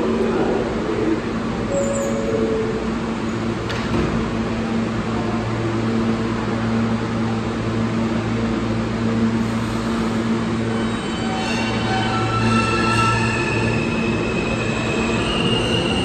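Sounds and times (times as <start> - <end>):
subway train humming: 0.0 - 16.0.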